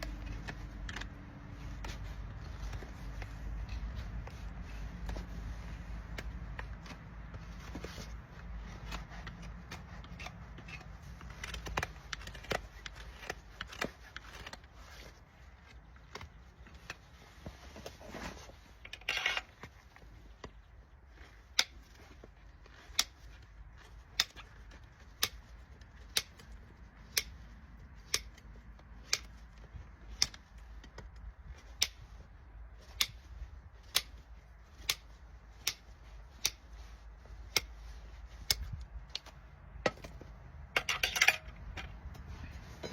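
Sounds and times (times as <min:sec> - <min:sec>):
hoof trimming tools clicking: 0:00.0 - 0:17.1, 0:18.8 - 0:42.6
tool scraping hoof: 0:00.0 - 0:42.9.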